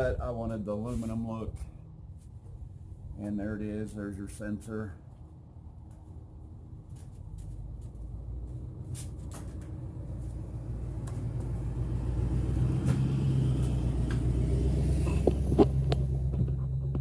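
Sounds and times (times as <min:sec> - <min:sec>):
mechanical rumble with hum: 0:00.0 - 0:17.0.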